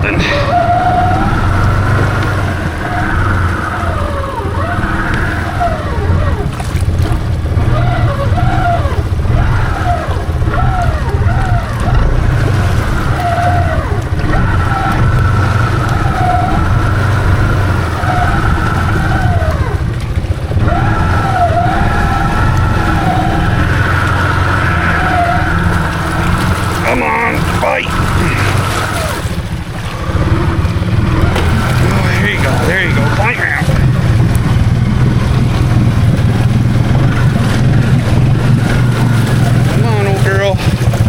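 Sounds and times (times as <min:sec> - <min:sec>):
atv engine revving: 0:00.0 - 0:41.0
tyres spinning in mud: 0:00.0 - 0:41.0.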